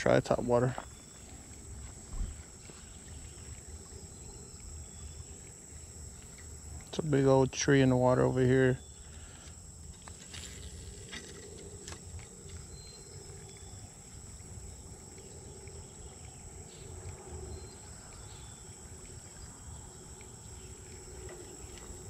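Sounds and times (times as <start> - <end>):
faint wavering hum: 0.0 - 22.0
insects trilling: 0.0 - 22.0.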